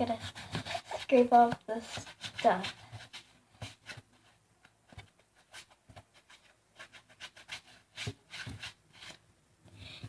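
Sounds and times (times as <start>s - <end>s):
scraping and rubbing by hand: 0.0s - 9.2s.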